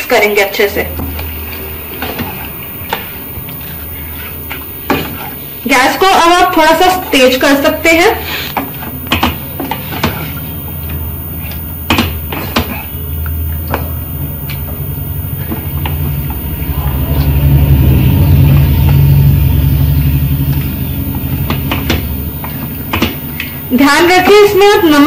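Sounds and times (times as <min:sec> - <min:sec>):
loud low rumble: 0:00.0 - 0:25.0.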